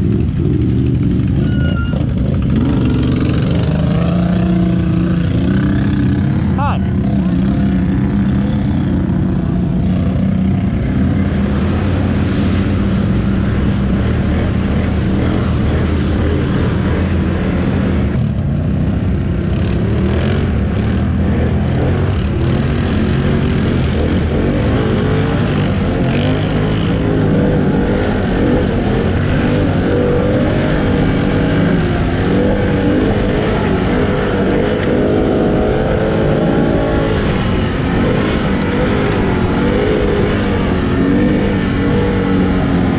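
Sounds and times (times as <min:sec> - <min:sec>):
quad bike engine revving: 0:00.0 - 0:42.9.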